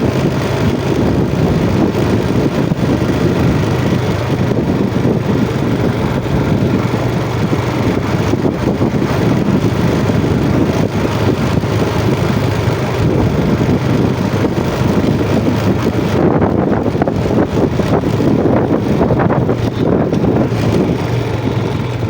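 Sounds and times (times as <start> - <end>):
motorcycle engine running: 0.0 - 22.0
wind rumbling on microphone: 0.0 - 22.0.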